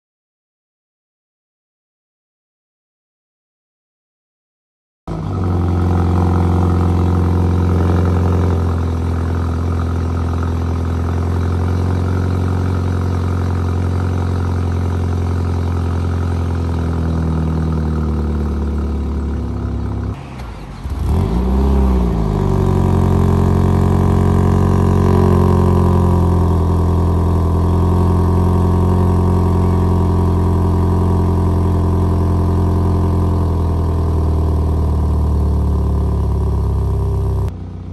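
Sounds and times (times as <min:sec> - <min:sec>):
car engine revving: 0:05.1 - 0:37.9.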